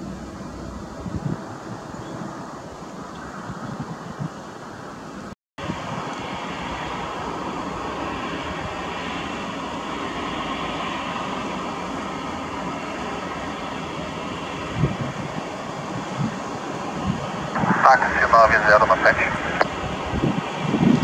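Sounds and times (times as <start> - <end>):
jet engines whining and rumbling: 0.0 - 21.0.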